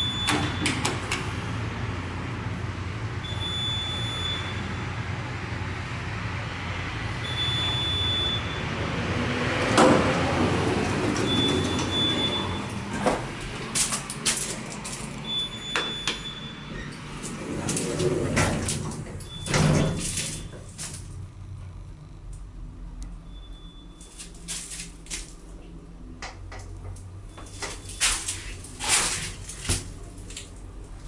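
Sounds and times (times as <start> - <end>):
elevator doors opening with rush: 0.0 - 6.4, 7.0 - 31.0
elevator hum: 0.0 - 31.0.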